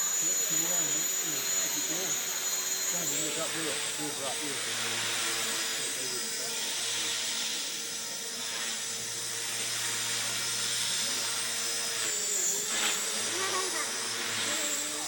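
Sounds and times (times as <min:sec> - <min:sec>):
model helicopter motor whine: 0:00.0 - 0:15.0
rotor blades hissing: 0:00.0 - 0:15.0.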